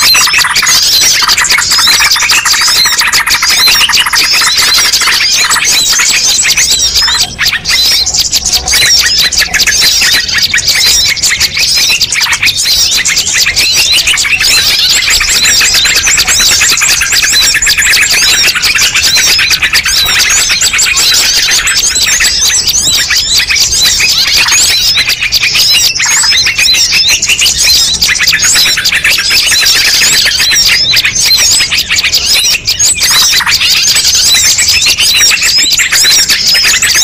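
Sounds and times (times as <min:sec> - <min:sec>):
small birds chirping and twittering: 0:00.0 - 0:37.0.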